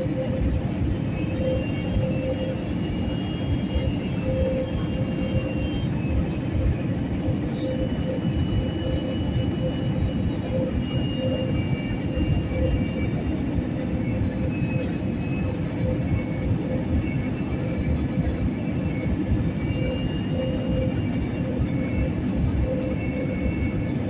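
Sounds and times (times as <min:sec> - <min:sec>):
airliner engine and airflow rumble: 0:00.0 - 0:24.0
faint high whining tones: 0:00.0 - 0:24.0.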